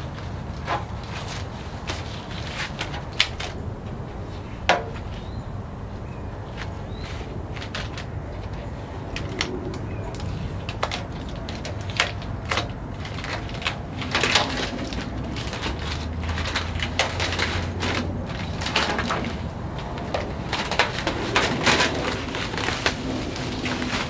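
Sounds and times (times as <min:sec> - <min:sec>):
crinkling handling noise: 0:00.0 - 0:24.0.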